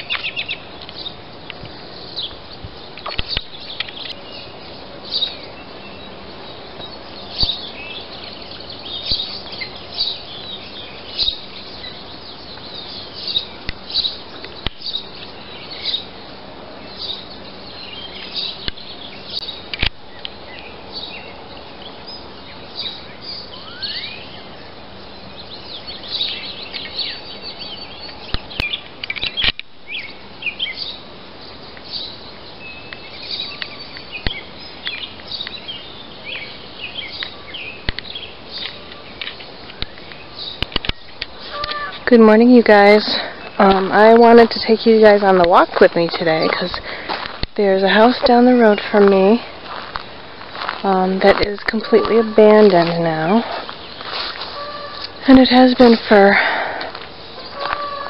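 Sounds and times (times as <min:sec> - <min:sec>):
birds singing and chirping: 0:00.0 - 0:58.0
outdoor background rush: 0:00.0 - 0:58.0.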